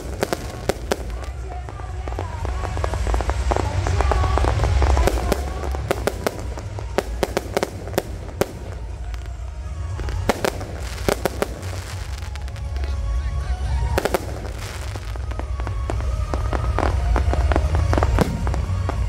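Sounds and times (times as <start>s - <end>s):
fireworks bangs: 0.0s - 19.0s
fireworks crackling and popping: 0.0s - 19.0s.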